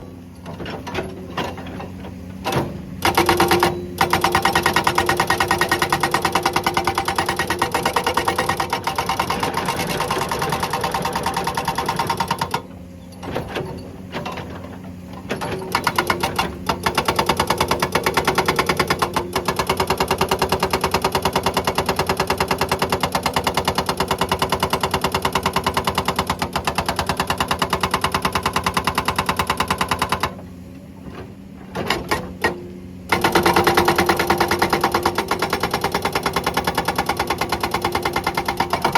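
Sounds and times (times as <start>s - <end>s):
excavator engine drone: 0.0s - 38.9s
hydraulic breaker hammering rock: 0.0s - 38.9s.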